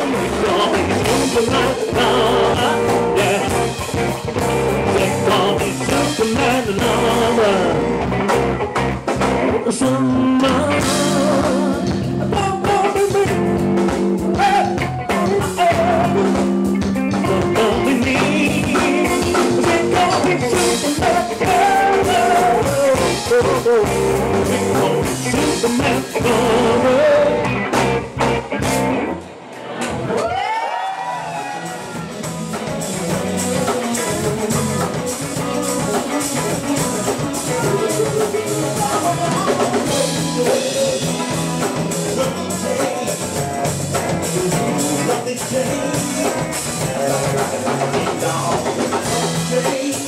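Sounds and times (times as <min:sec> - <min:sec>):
person singing: 0:00.0 - 0:08.5, 0:09.3 - 0:27.7, 0:31.6 - 0:50.0
funk band playing: 0:00.0 - 0:50.0.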